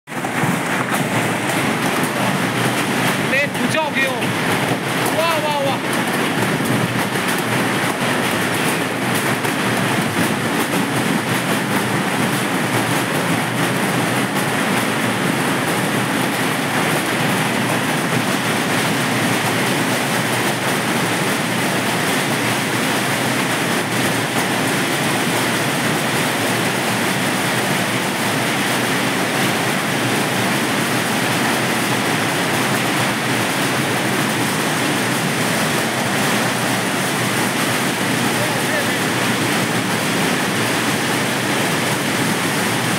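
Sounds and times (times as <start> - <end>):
hailstones pelting ground and foliage: 0.2 - 42.9.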